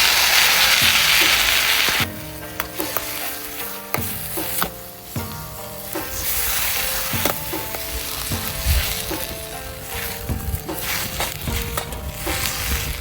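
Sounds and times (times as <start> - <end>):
background music: 0.0 - 13.0
food sizzling in a pan: 0.0 - 13.0
utensil tapping a pan: 0.1 - 13.0.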